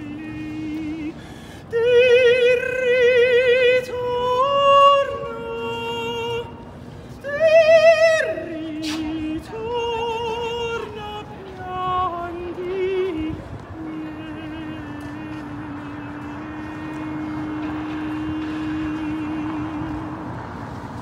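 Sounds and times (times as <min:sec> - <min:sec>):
person singing with vibrato: 0:00.0 - 0:20.6.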